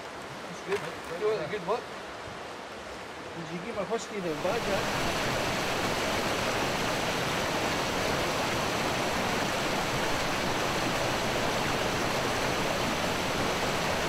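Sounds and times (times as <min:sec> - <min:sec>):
river rushing over boulders: 0:00.0 - 0:14.0.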